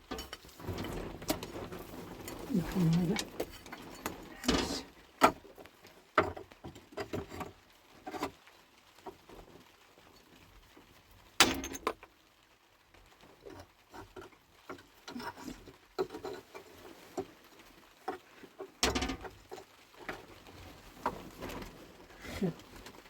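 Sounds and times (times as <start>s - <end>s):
objects knocking and clattering: 0.0s - 8.4s, 11.4s - 12.1s, 13.3s - 23.0s.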